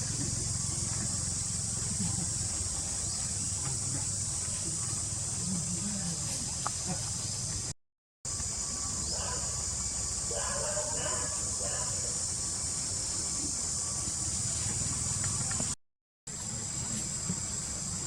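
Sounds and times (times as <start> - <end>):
insect chorus buzzing: 0.0 - 7.7, 8.3 - 18.0.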